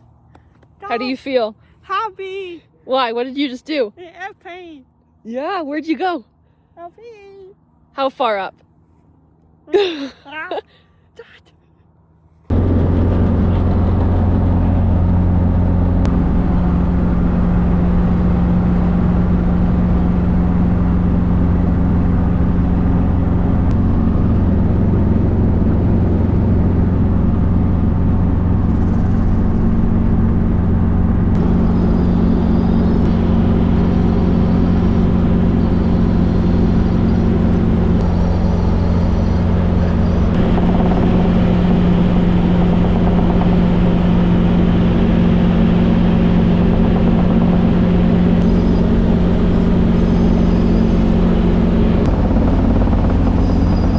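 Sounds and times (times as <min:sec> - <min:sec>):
helicopter engine and rotor drone: 0:00.1 - 0:53.9.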